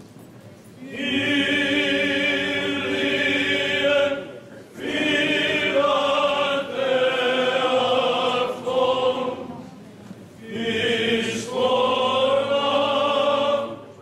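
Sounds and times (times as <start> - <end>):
choir chanting long notes: 0.8 - 9.6, 10.4 - 14.0.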